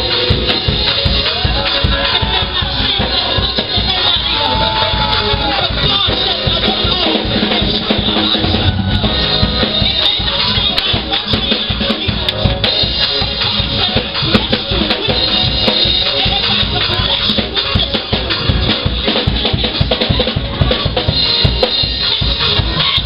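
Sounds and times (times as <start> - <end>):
band music: 0.0 - 23.0
drum kit beat: 0.0 - 23.0.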